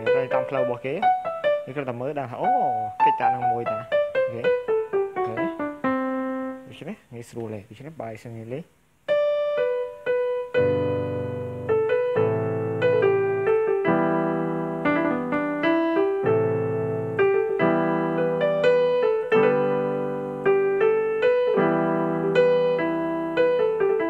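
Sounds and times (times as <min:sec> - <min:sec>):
keyboard melody: 0:00.0 - 0:06.8, 0:09.1 - 0:24.0
keyboard chords: 0:00.0 - 0:06.9, 0:09.1 - 0:24.0.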